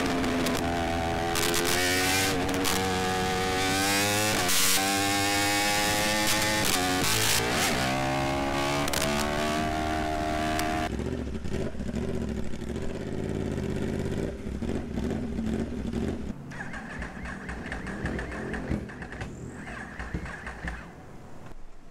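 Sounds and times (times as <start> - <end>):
motorcycle engine revving high: 0.0 - 21.0.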